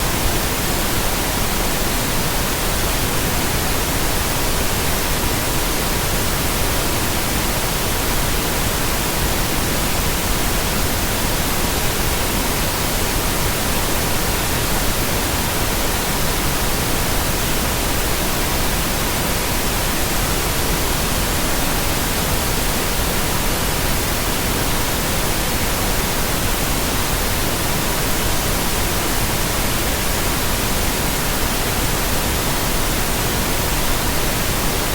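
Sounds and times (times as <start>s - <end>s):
pink noise hiss: 0.0s - 34.9s.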